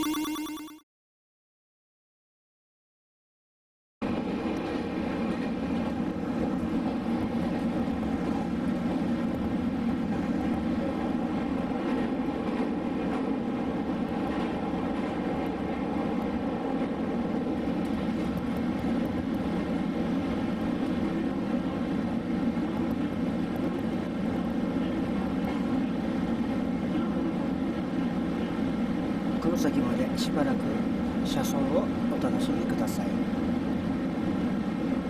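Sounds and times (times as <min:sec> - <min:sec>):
train carriage rumble: 0:04.0 - 0:35.0.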